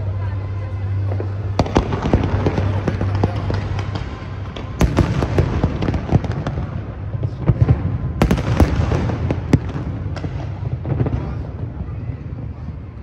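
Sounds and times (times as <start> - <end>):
steady low rumble: 0.0 - 13.0
fireworks bangs and crackles: 0.9 - 13.0.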